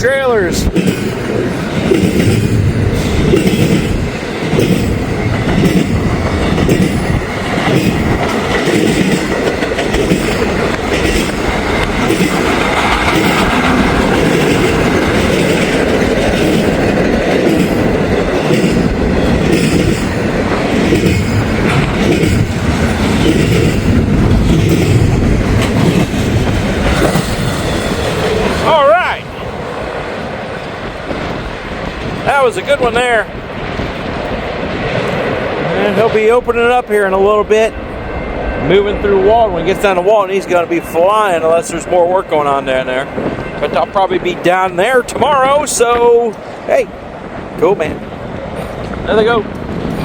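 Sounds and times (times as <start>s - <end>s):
freight train wheels clacking: 0.0s - 50.0s.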